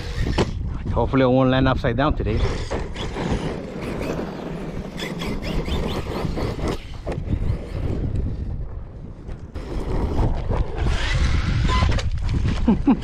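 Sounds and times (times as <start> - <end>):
toy truck driving on rough ground: 0.0 - 0.7, 2.3 - 8.5, 9.1 - 12.8
wind buffeting microphone: 0.0 - 13.0.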